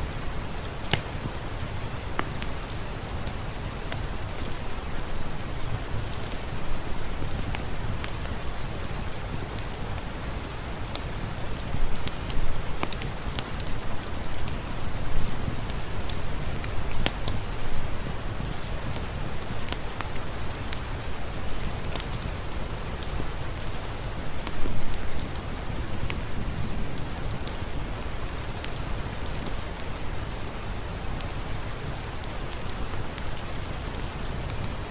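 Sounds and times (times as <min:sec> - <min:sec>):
heavy rain hissing: 0:00.0 - 0:34.9
raindrops ticking on a surface: 0:00.0 - 0:34.9.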